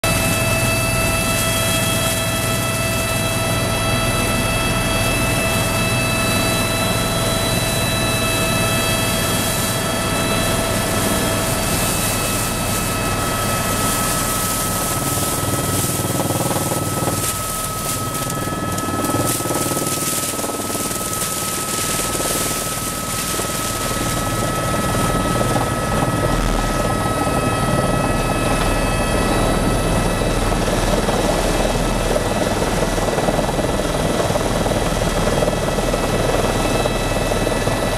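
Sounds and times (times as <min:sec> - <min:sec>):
helicopter engine and rotor noise: 0:00.0 - 0:37.9.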